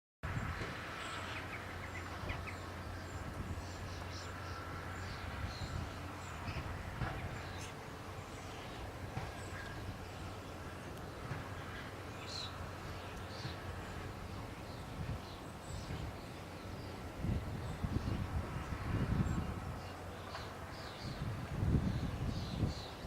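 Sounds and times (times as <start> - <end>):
small birds chirping: 0.4 - 23.0.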